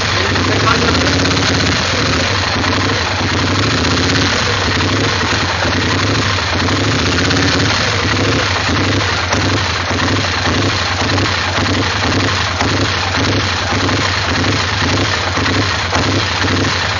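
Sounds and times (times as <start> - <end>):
engine idling roughly: 0.0 - 16.9.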